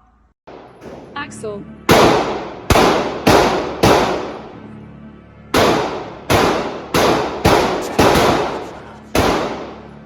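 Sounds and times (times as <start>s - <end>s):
pistol shots echoing indoors: 0.5s - 1.2s, 1.8s - 4.6s, 5.4s - 10.0s.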